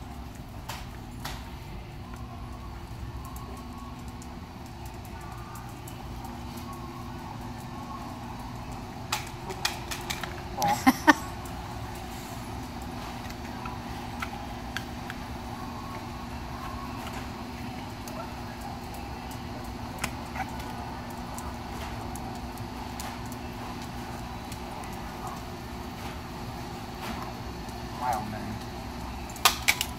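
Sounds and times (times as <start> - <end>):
indoor background hum: 0.0 - 29.9.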